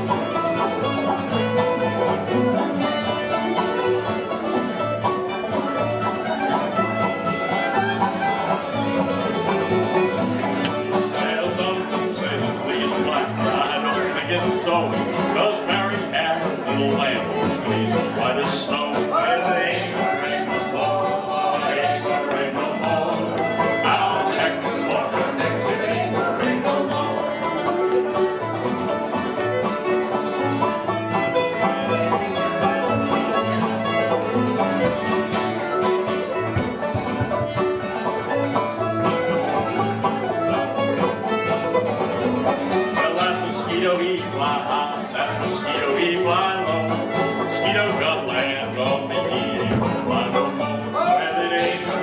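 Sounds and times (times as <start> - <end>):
banjo picking: 0.0 - 52.0
guitar picking: 0.0 - 52.0.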